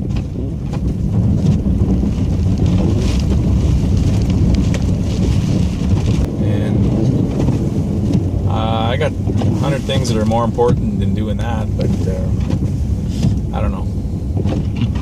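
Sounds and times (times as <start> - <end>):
road and wind noise: 0.0 - 15.0
truck engine running: 0.0 - 15.0.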